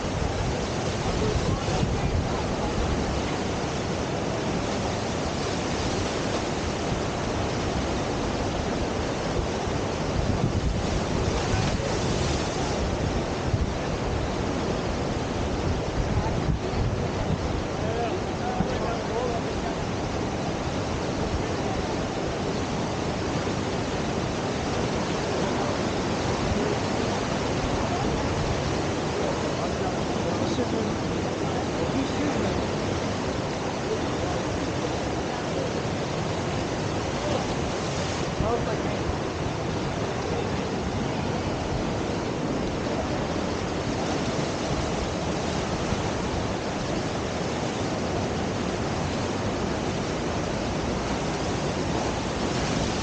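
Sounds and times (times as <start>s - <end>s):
river whitewater rushing: 0.0s - 53.0s
wind on microphone: 0.0s - 53.0s.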